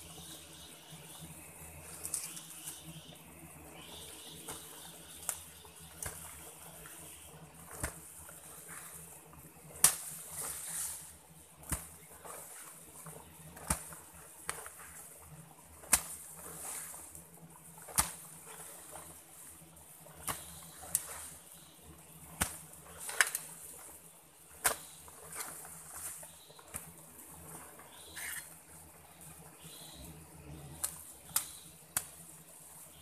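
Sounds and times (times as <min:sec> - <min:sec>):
soil and leaves scraping: 0:00.0 - 0:33.0.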